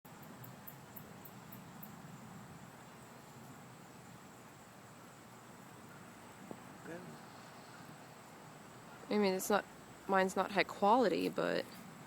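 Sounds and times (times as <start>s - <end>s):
insects trilling: 0.1s - 12.0s
low hiss: 0.1s - 12.0s.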